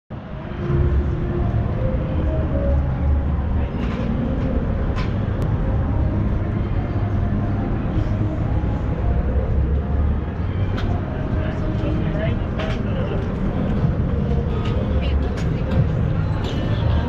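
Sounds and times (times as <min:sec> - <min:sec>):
traffic rumble: 0:00.1 - 0:17.0.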